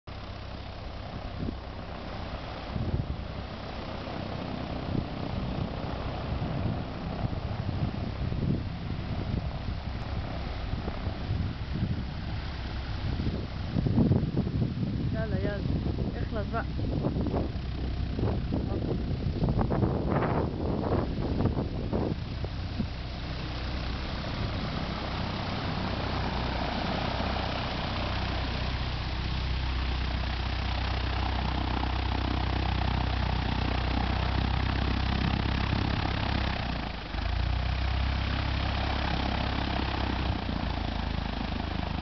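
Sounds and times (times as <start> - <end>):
airplane engines droning: 0.1 - 42.0.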